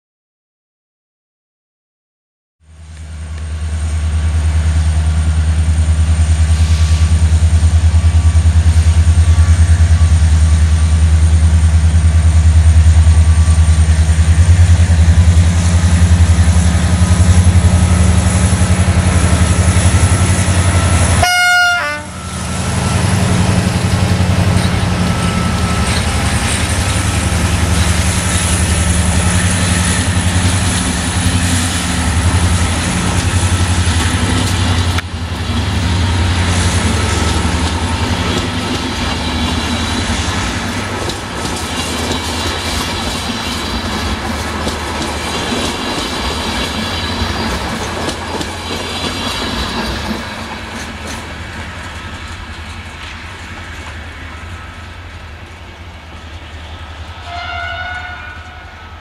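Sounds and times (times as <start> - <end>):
diesel locomotive engine drone: 2.6 - 59.0.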